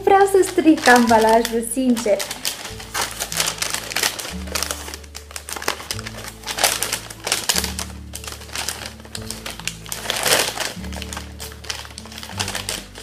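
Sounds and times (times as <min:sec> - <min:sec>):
wrapping paper crinkling: 0:00.0 - 0:13.0.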